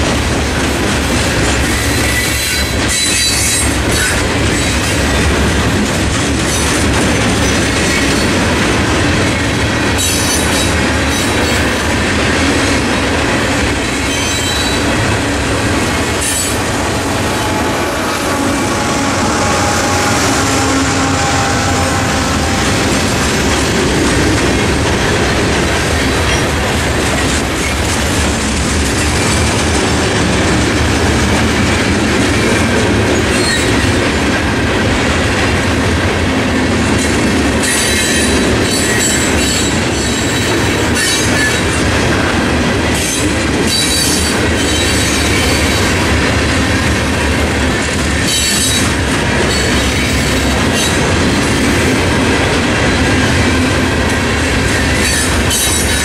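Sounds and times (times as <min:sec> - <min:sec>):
rumble of train cars: 0:00.0 - 0:56.0
locomotive passing: 0:03.7 - 0:56.0.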